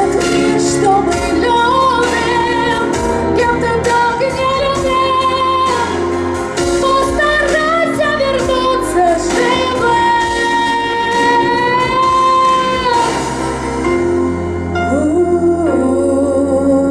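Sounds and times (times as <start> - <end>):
woman singing pop song: 0.0 - 14.0, 14.7 - 16.9
instrumental accompaniment: 0.0 - 16.9.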